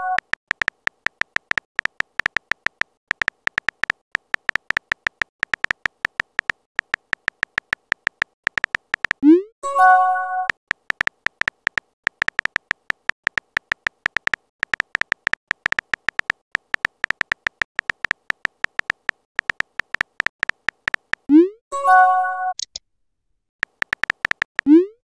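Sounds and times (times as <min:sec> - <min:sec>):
phone keyboard clicks: 0:00.0 - 0:09.2, 0:10.4 - 0:21.3, 0:23.6 - 0:24.7.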